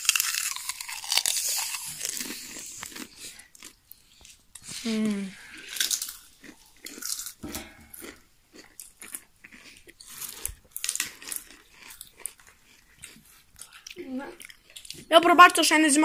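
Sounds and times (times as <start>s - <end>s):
potato chips crunching: 0.0s - 4.7s, 5.5s - 15.1s.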